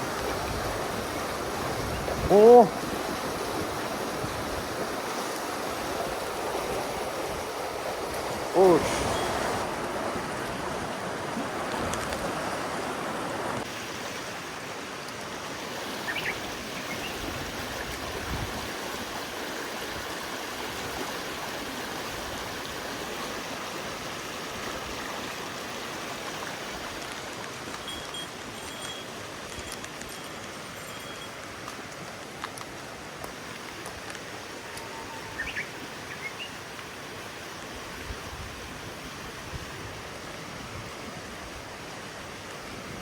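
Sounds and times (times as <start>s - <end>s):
stream flowing over rocks: 0.0s - 43.0s.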